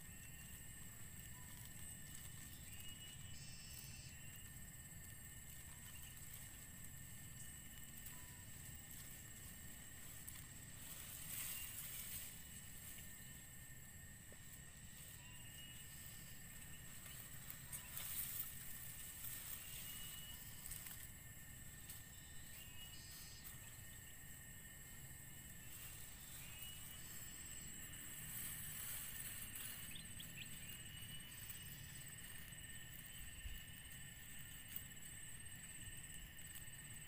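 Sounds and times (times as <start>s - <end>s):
dry grass rustling: 0.0s - 37.0s
insect drone: 0.0s - 37.0s
rising insect chirp: 0.0s - 37.0s.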